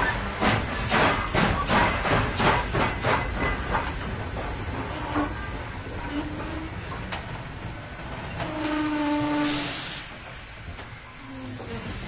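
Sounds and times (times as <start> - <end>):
steady steam hiss: 0.0 - 12.0
steam locomotive chuffing: 0.0 - 12.0.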